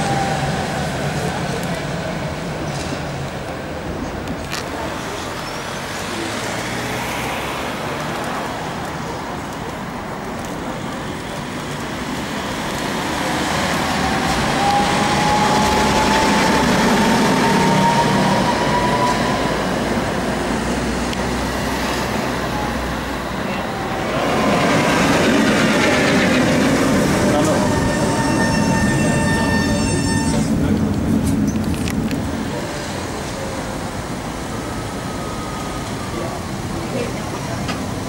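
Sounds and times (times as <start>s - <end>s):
city traffic: 0.0s - 38.0s
tram rumbling: 0.0s - 38.0s.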